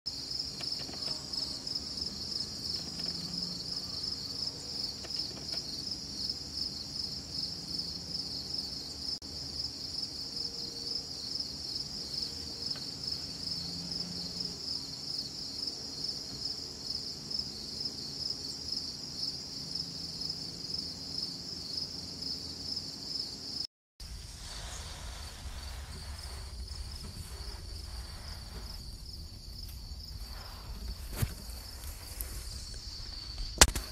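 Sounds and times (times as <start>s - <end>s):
insects trilling: 0.1s - 23.7s, 24.4s - 33.9s.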